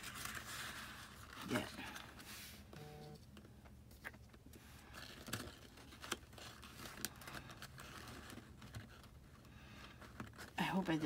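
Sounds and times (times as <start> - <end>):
paper rustling: 0.0 - 2.7, 3.9 - 11.0.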